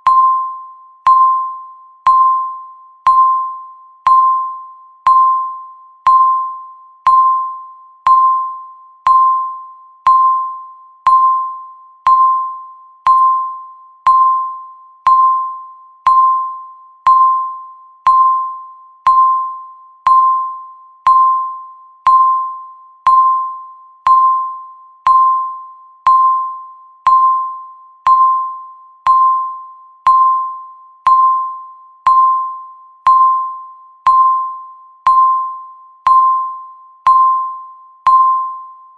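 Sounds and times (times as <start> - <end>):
short electronic timer beeps: 0.0 - 38.9.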